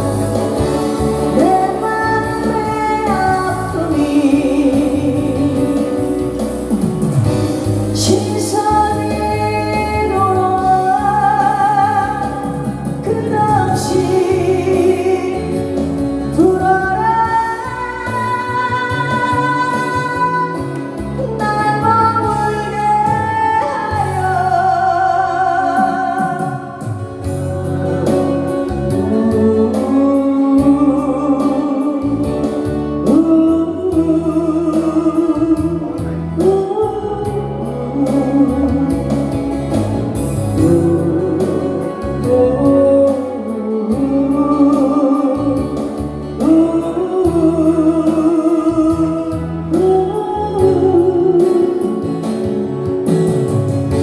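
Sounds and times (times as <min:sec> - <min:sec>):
pop song instrumental: 0:00.0 - 0:54.0.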